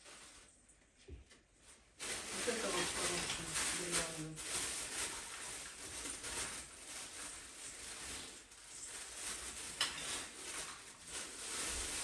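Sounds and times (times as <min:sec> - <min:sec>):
ornaments rustling and handling: 0:00.0 - 0:12.0.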